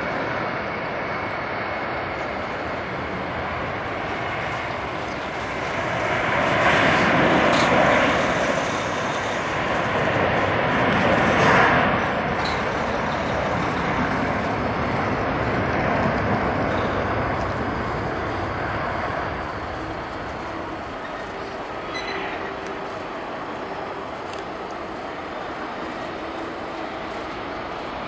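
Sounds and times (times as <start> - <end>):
jet engine takeoff roar: 0.0 - 28.0.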